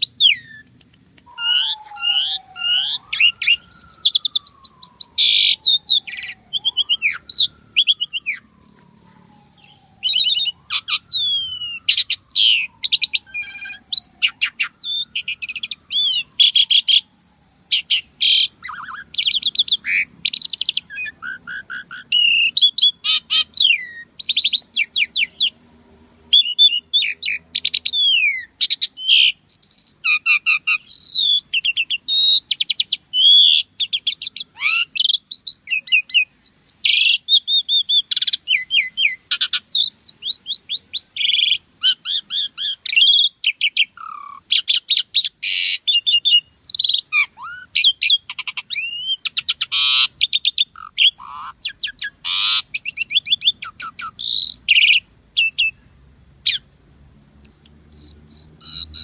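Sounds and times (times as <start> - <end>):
starling singing varied song: 0.0 - 59.0.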